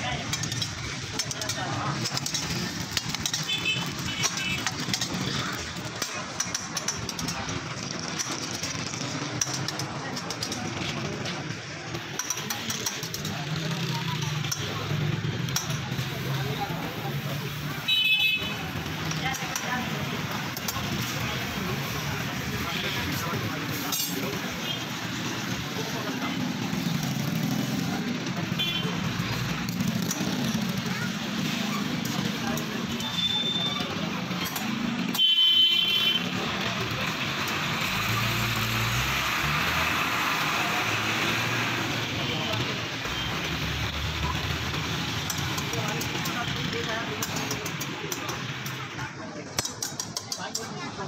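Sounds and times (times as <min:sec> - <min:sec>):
people talking: 0:00.0 - 0:51.0.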